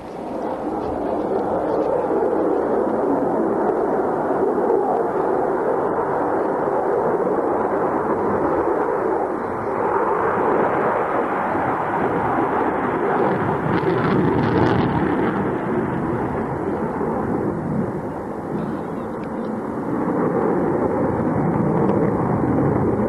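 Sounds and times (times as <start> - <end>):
jet fighter roar: 0.0 - 23.0.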